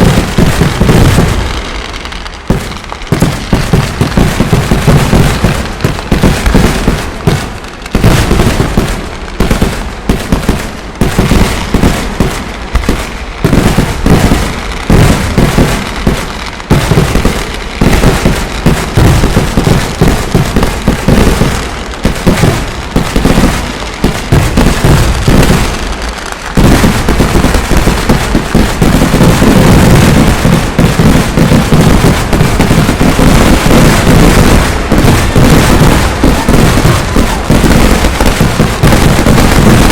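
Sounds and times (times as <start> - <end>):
rapid firecracker blasts: 0.0 - 39.9.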